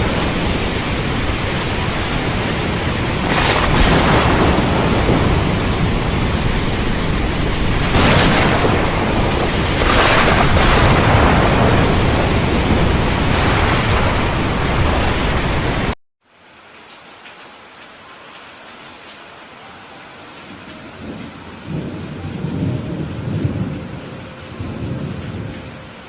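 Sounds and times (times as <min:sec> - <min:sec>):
thunder rumbling: 0:00.0 - 0:16.0, 0:21.0 - 0:26.0
heavy rain: 0:00.0 - 0:26.0.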